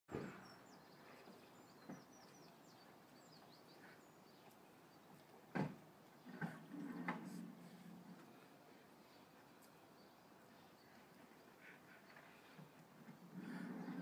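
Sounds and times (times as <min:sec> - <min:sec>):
faint birdsong chirps: 0:00.1 - 0:14.0.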